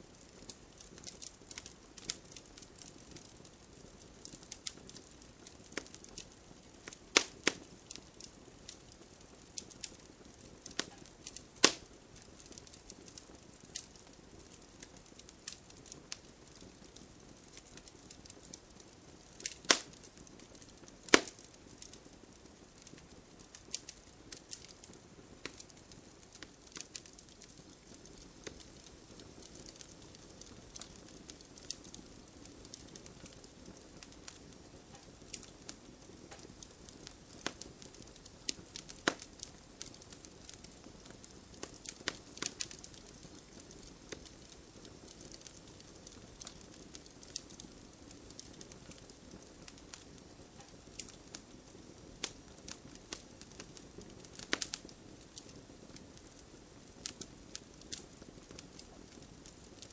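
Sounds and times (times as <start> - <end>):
bonfire crackling and popping: 0.0 - 59.9.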